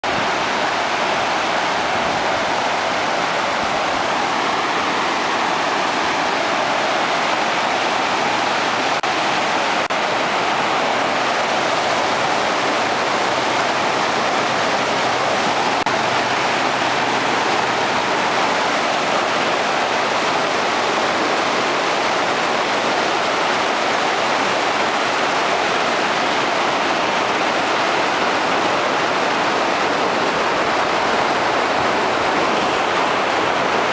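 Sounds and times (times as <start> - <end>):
white water rushing: 0.0 - 33.9.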